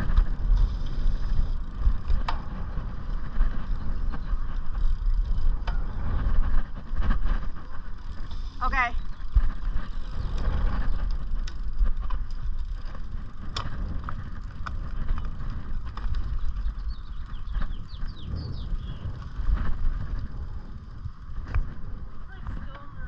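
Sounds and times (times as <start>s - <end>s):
bicycle tyre noise: 0.0s - 23.0s
bike clicks and rattles: 0.0s - 23.0s
wind rumbling on microphone: 0.0s - 23.0s.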